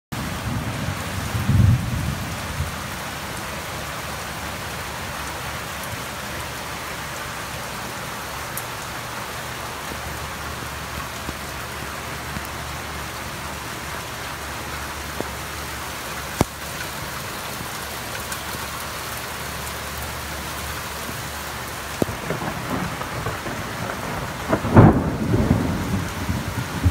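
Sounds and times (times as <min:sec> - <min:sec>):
rain falling: 0:00.1 - 0:26.9.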